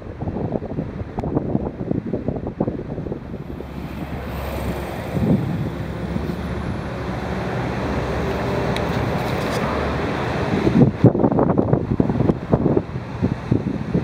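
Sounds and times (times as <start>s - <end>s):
wind on microphone: 0.0s - 14.0s
ship engines humming: 0.9s - 13.5s.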